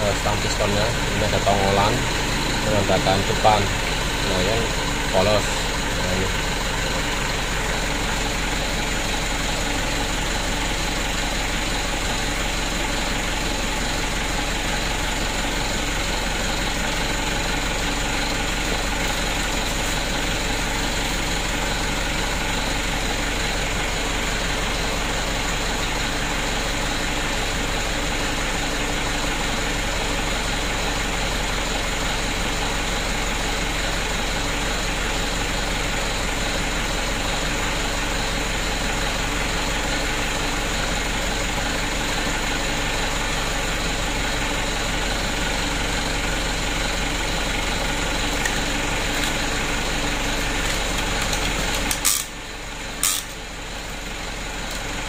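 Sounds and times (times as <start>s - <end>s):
machine droning: 0.0s - 55.0s.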